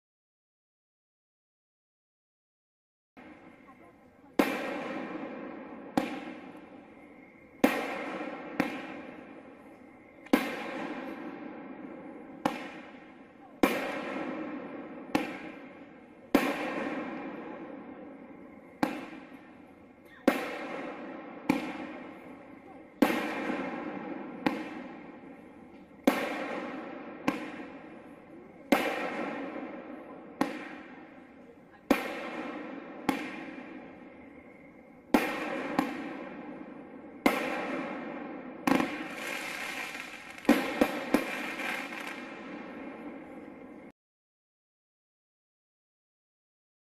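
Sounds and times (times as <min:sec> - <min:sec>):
firework bangs: 0:03.2 - 0:43.9.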